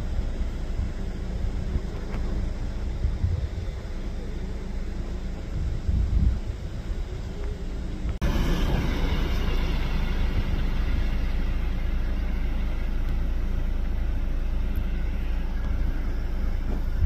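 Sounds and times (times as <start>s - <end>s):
jet engines at high thrust: 0.0s - 17.0s.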